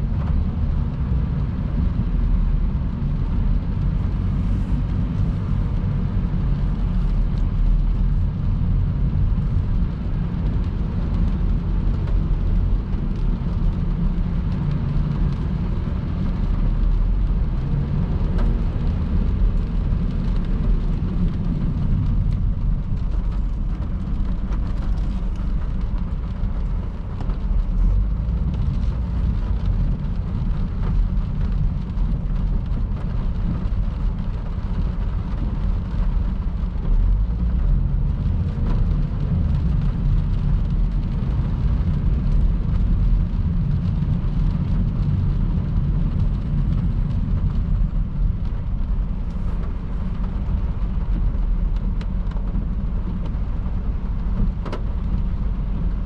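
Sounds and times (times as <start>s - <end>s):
tyre noise on wet road: 0.0s - 56.0s.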